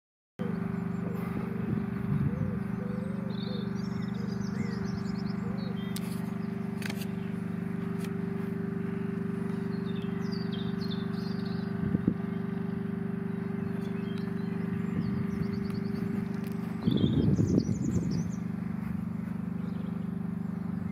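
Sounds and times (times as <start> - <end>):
low machine hum: 0.4 - 20.9
small birds chirping: 0.4 - 20.9.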